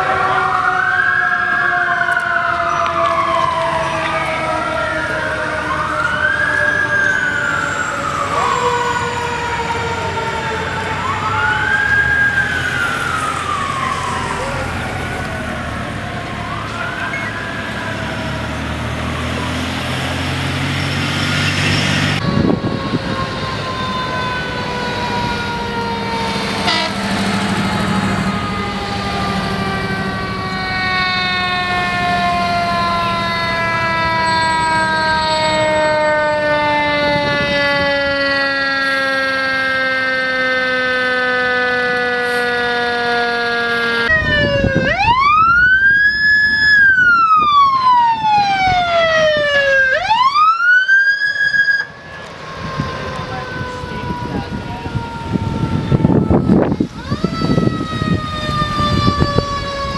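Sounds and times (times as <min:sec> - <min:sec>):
fire engine siren winding down: 0:00.0 - 0:59.9
siren sweeping up in pitch: 0:00.0 - 0:59.9
siren wailing up and down: 0:00.0 - 0:59.9
truck engine: 0:00.0 - 0:59.9.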